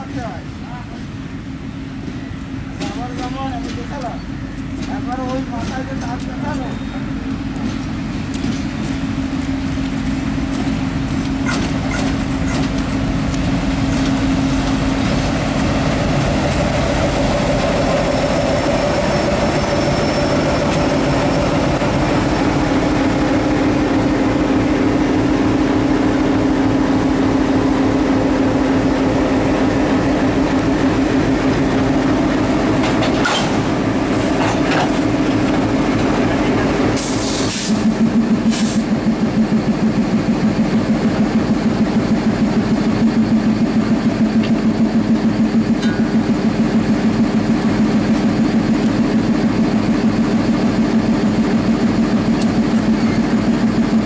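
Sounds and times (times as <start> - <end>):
locomotive engine droning: 0.0 - 54.0.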